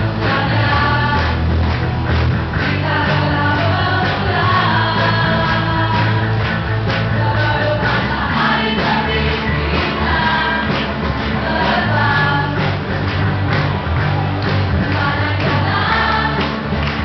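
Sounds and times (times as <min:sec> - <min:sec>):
group of voices singing: 0:00.0 - 0:17.0
instrumental backing with beat: 0:00.0 - 0:17.0.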